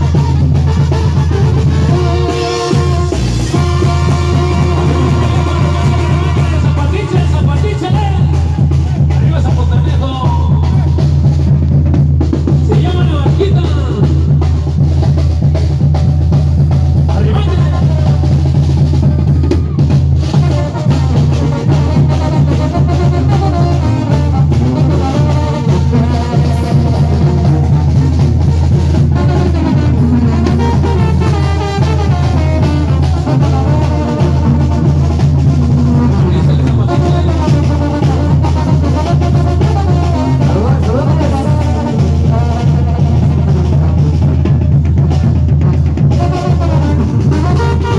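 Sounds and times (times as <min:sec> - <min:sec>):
drum kit beat: 0:00.0 - 0:47.9
heavy boomy bass: 0:00.0 - 0:47.9
instrumental melody line: 0:00.0 - 0:47.9.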